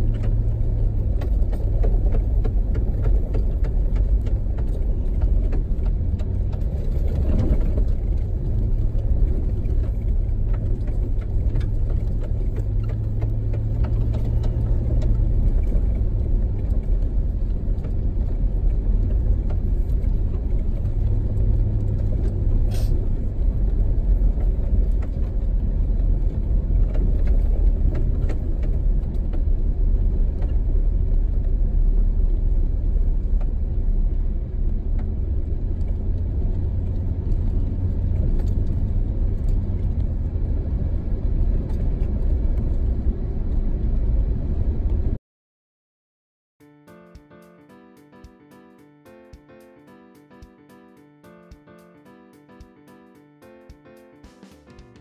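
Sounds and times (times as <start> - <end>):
engine rumble inside vehicle cab: 0.0 - 45.2.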